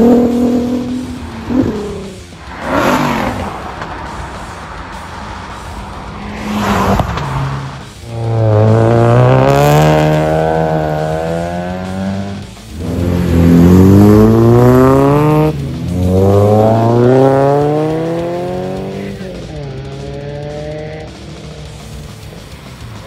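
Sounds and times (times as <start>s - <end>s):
cars accelerating away: 0.0s - 23.0s.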